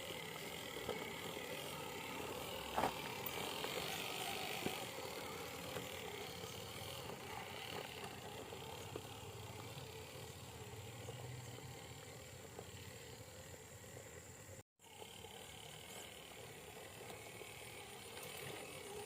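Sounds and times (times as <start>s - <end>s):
toy truck electric motor whirring: 0.0s - 19.0s.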